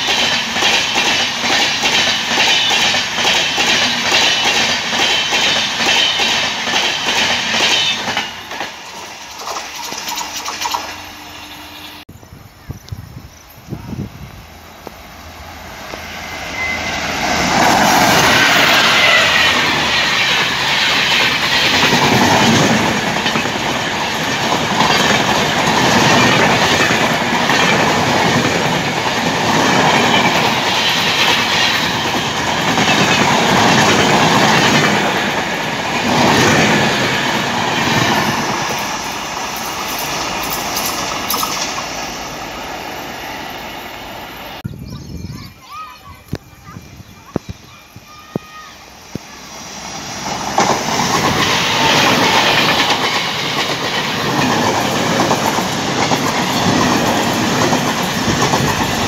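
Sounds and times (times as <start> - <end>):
coach wheels clattering over rails: 0.0 - 11.2, 14.8 - 44.6, 48.2 - 59.0
express train passing: 0.0 - 59.0.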